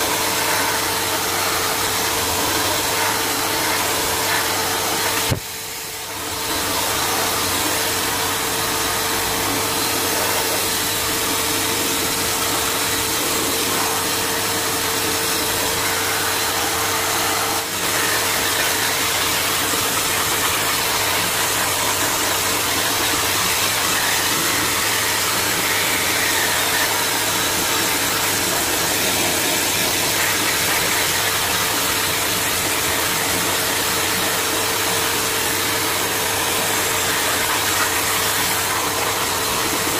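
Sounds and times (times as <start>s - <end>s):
blow dryer running: 0.0s - 39.9s.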